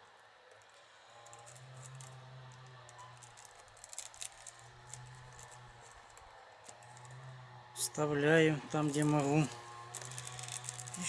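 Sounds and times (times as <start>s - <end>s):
wicker rods crackling: 1.2s - 7.2s, 7.8s - 11.0s.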